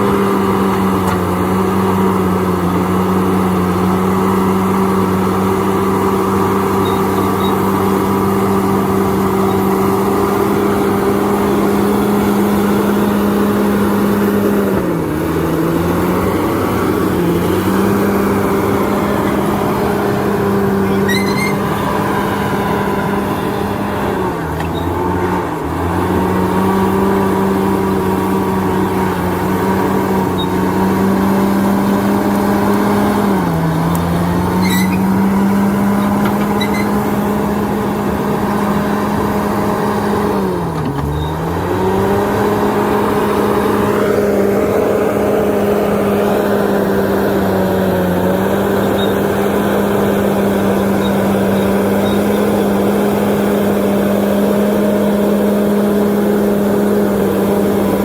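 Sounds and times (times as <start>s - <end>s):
diesel engine running at high revs: 0.0s - 58.0s.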